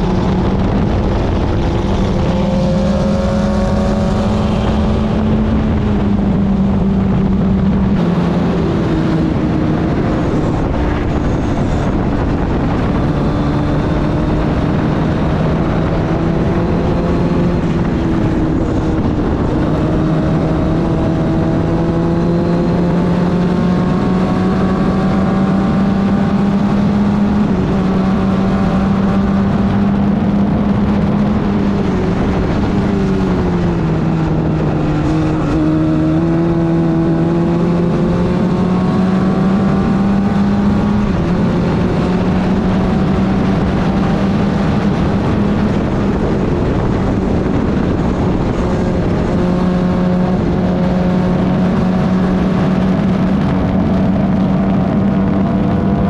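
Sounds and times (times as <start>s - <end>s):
race car engine revving: 0.0s - 56.0s
wind and road noise: 0.0s - 56.0s.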